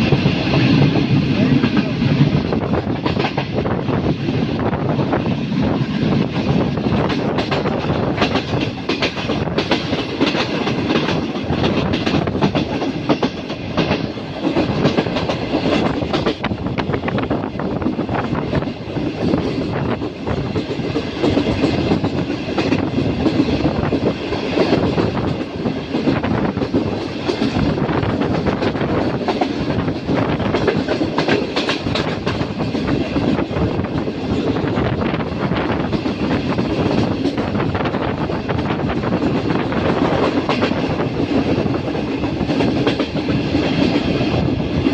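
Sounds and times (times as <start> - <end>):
train wheels clattering over rail joints: 0.0 - 44.9.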